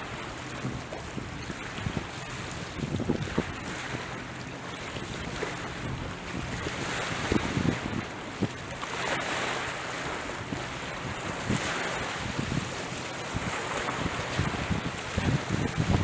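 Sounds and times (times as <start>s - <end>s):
distant motorboat engine hum: 0.0s - 16.0s
small waves washing along shore: 0.0s - 16.0s
wind: 0.0s - 16.0s
wind buffeting microphone: 0.0s - 16.0s.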